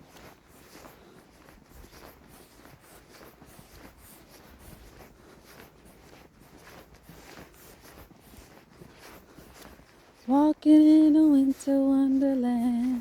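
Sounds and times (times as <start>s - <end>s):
footsteps crunching through snow: 0.0s - 13.0s.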